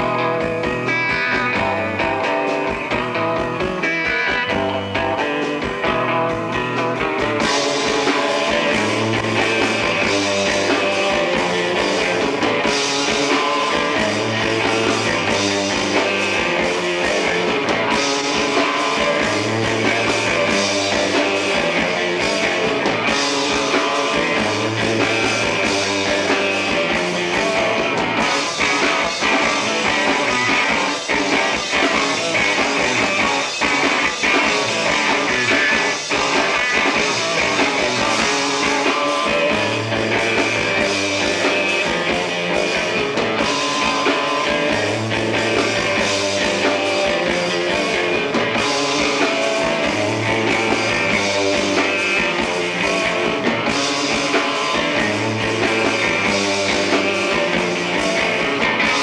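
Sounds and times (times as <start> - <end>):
drum kit with cymbals: 0.0 - 59.0
electric guitar riff: 0.0 - 59.0.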